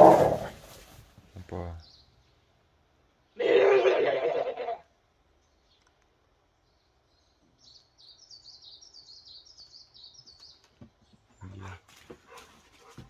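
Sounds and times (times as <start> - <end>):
songbird chirping: 0.0 - 3.8, 4.8 - 13.0.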